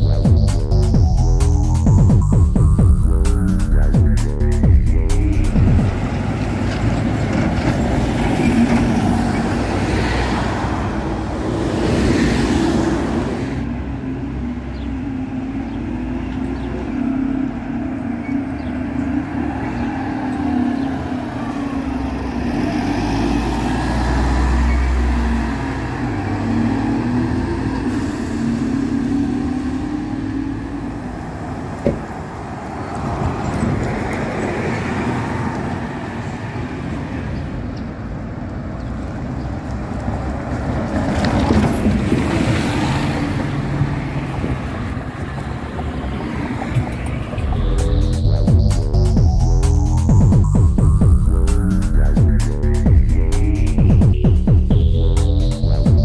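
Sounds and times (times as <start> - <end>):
diesel buses passing: 0.0 - 56.0
traffic noise: 0.0 - 56.0.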